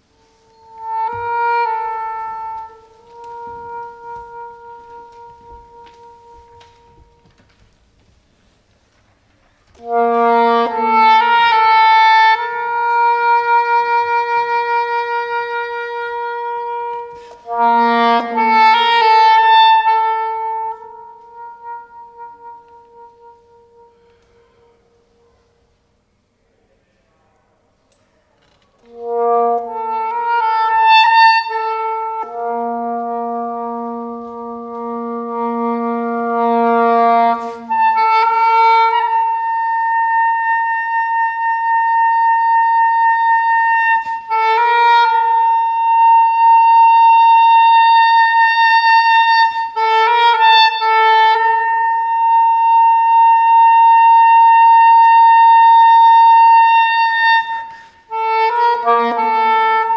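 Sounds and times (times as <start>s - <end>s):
soprano saxophone playing: 0.0s - 7.6s, 9.6s - 25.8s, 28.8s - 59.9s.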